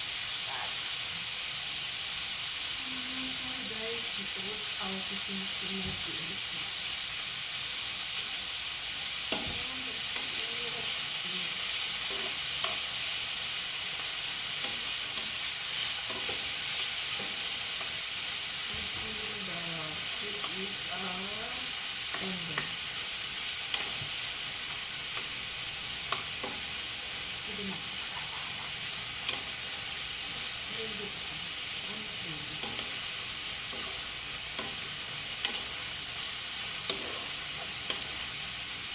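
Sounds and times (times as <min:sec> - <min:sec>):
beef sizzling in a pan: 0:00.0 - 0:38.9.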